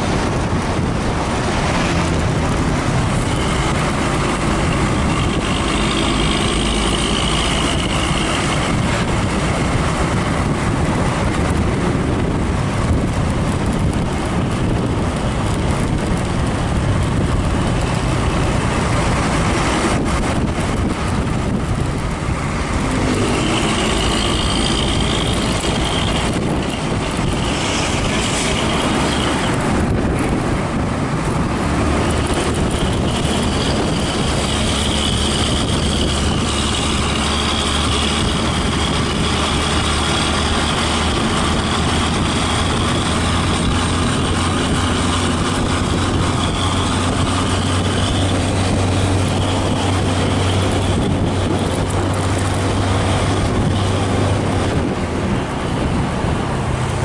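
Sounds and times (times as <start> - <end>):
bus engine drone: 0.0 - 57.0
tyre and road noise: 0.0 - 57.0.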